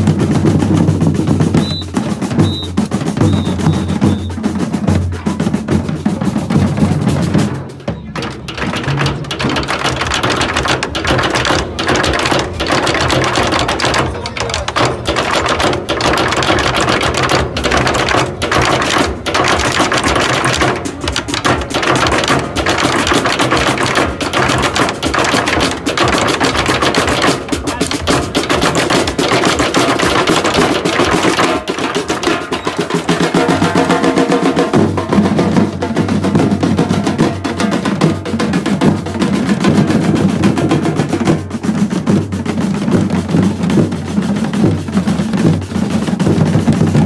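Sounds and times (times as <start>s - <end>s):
bass and snare drums playing: 0.0s - 47.0s.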